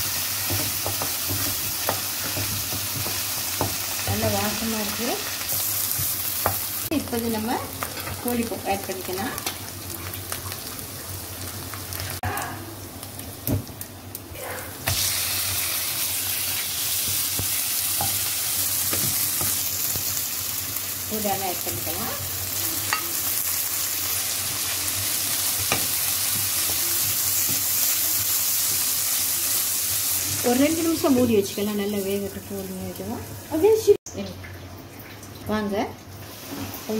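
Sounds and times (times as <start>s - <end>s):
chicken frying in hot oil: 0.0s - 13.9s, 14.8s - 34.4s.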